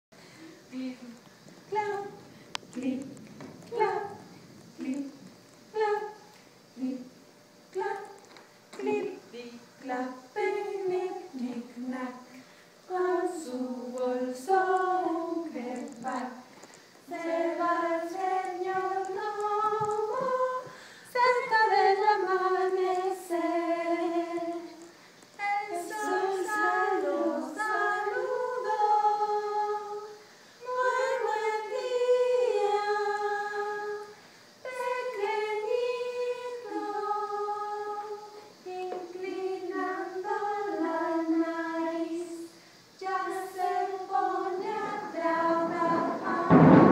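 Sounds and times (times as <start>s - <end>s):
women singing unaccompanied: 0.2s - 46.9s.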